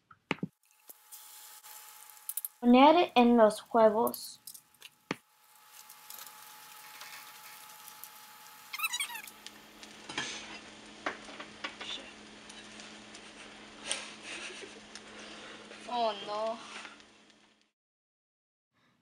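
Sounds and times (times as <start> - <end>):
egg mixture sizzling in a pan: 0.6 - 17.6.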